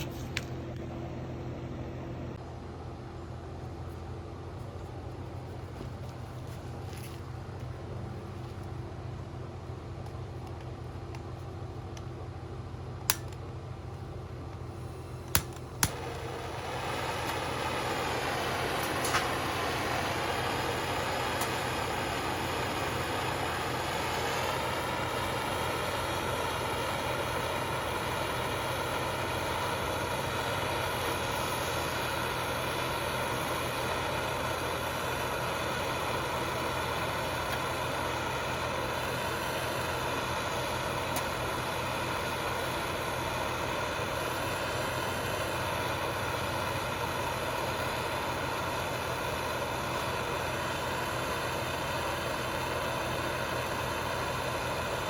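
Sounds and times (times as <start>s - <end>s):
machine droning: 0.0s - 55.0s.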